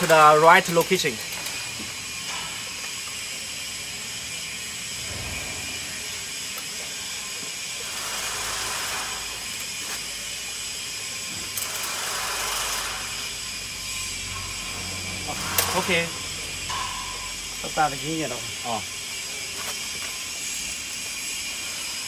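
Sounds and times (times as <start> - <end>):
ratchet wrench clicking: 0.0 - 5.2, 5.9 - 22.0.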